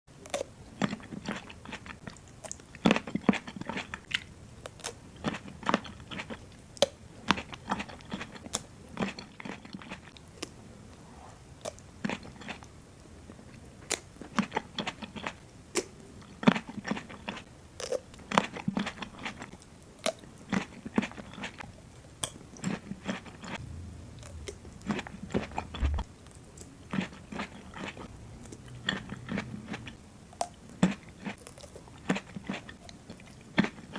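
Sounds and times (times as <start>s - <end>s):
chewing: 0.2s - 10.6s, 11.6s - 23.6s, 24.2s - 33.9s.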